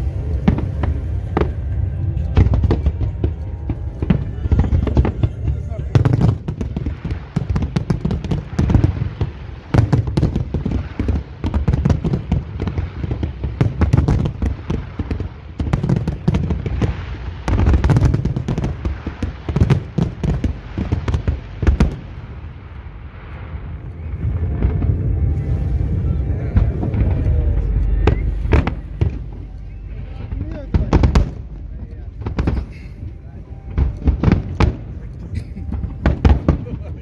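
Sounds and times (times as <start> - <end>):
deep firework booms: 0.0 - 37.0.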